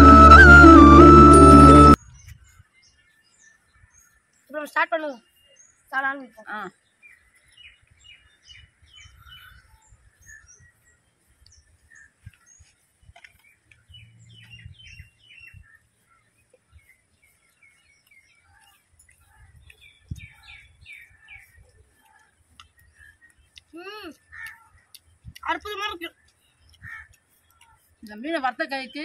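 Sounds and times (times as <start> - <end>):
birds chirping faintly: 0.1 - 29.0.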